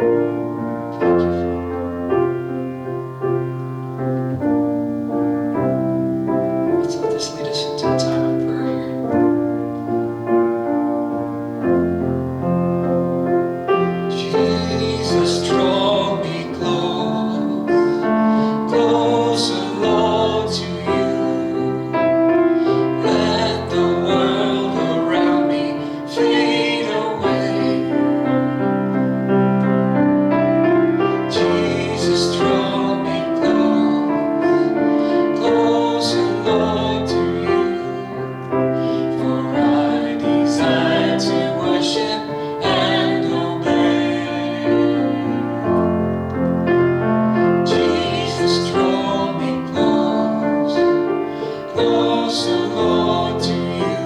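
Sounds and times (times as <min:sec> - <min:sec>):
slow worship piano music: 0:00.0 - 0:54.0.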